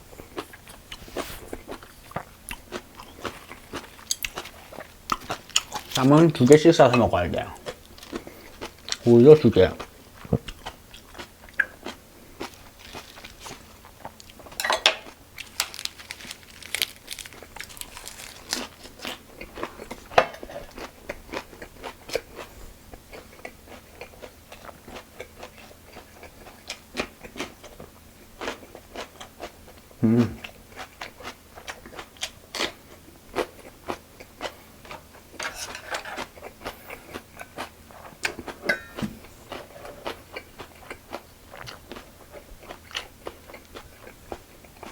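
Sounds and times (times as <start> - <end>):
chewing and crunching lettuce: 0.0 - 44.9.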